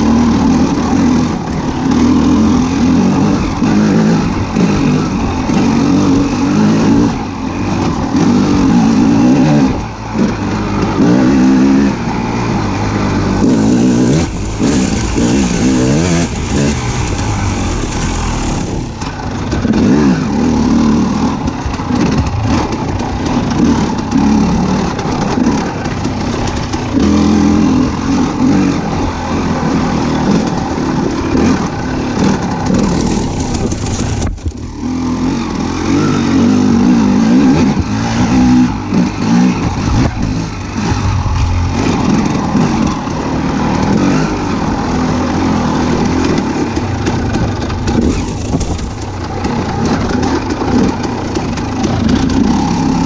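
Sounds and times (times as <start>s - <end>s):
vehicle engine revving: 0.0s - 53.0s.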